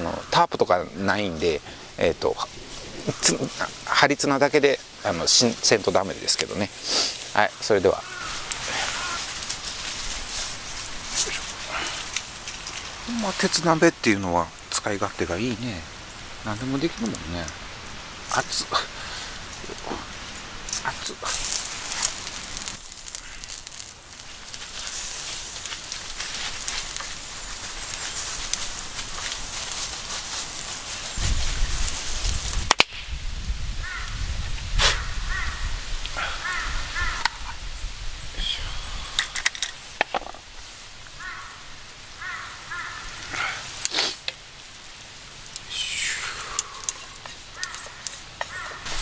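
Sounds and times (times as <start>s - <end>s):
campfire crackling: 0.0s - 49.0s
fire hissing: 0.0s - 49.0s.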